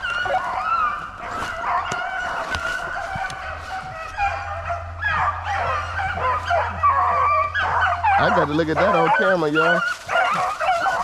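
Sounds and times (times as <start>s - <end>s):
hounds baying and howling: 0.0s - 11.0s.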